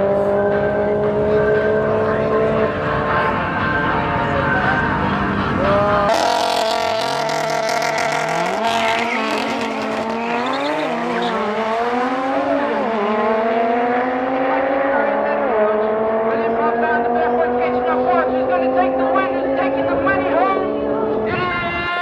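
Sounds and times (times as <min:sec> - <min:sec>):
cars accelerating hard: 0:00.0 - 0:21.9.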